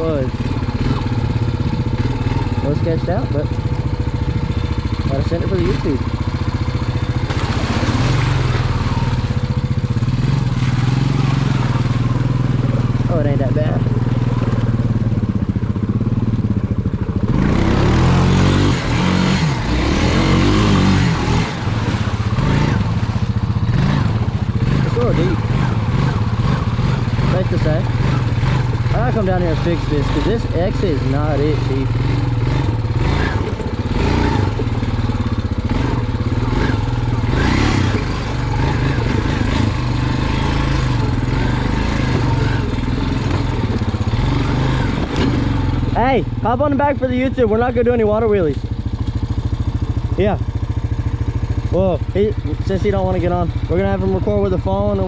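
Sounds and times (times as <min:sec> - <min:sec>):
atv engine idling and revving: 0:00.0 - 0:55.0.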